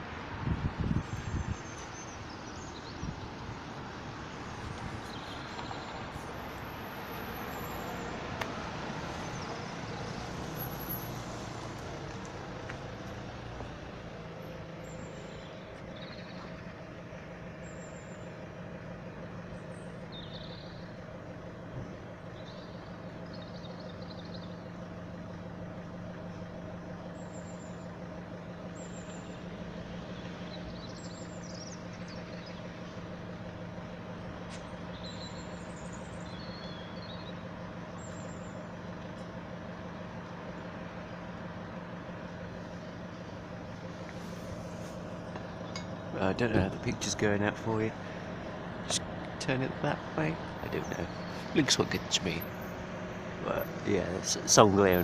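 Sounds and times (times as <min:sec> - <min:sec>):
traffic noise: 0:00.0 - 0:55.0
vehicle engine idling: 0:00.0 - 0:55.0.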